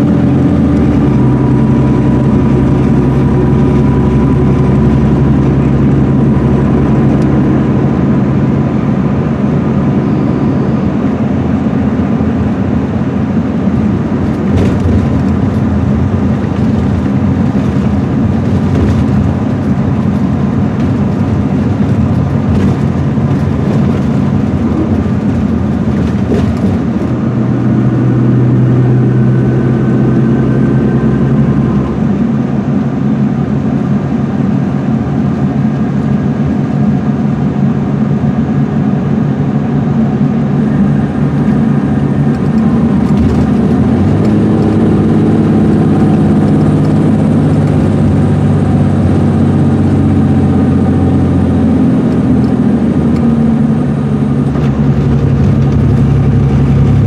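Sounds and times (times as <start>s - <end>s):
diesel engine humming: 0.0s - 57.0s
road and tyre noise: 0.0s - 57.0s.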